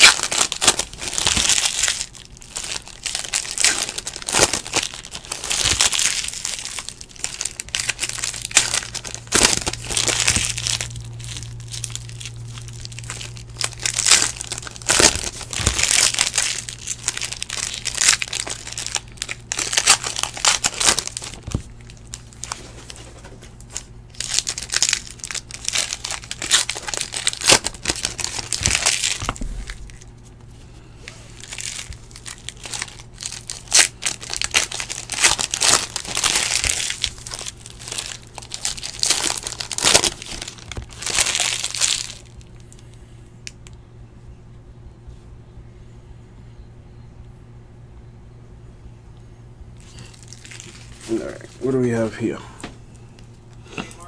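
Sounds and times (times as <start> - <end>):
plastic wrappers crinkling and tearing: 0.0 - 43.8, 49.8 - 52.3.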